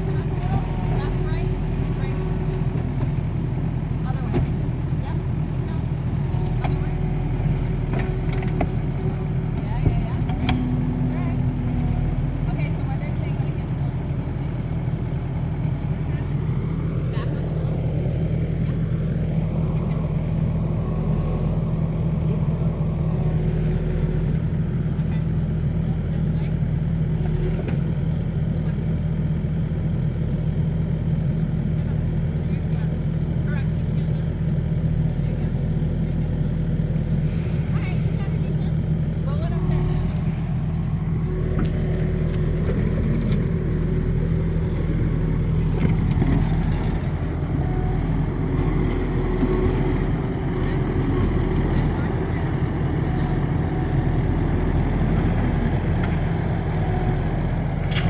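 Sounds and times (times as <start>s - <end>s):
loader engine running: 0.0s - 58.0s.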